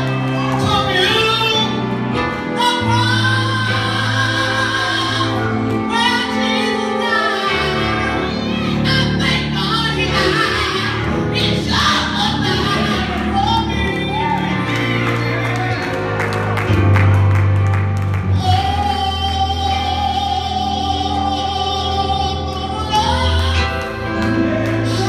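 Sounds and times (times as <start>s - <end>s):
woman singing gospel: 0.0s - 15.7s, 18.3s - 25.0s.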